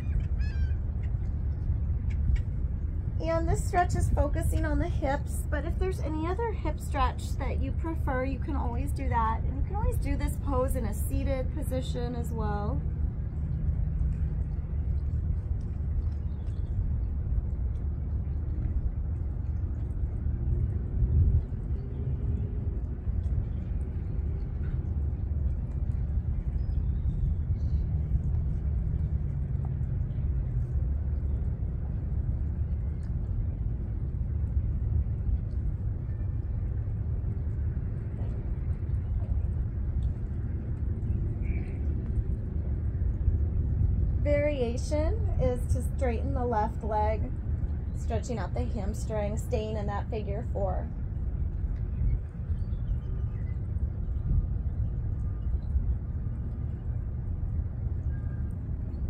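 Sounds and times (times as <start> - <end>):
faint engine drone: 0.0 - 59.0
low background rumble: 0.0 - 59.0.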